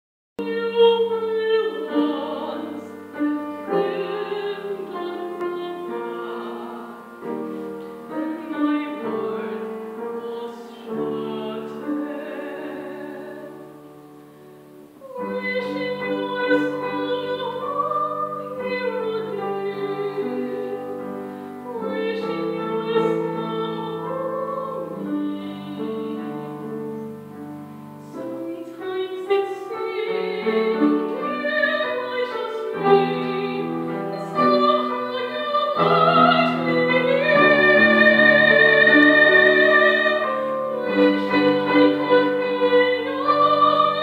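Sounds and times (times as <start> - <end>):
woman singing classically: 0.4 - 13.8, 15.0 - 27.1, 28.0 - 44.0
upright piano chords: 0.4 - 44.0.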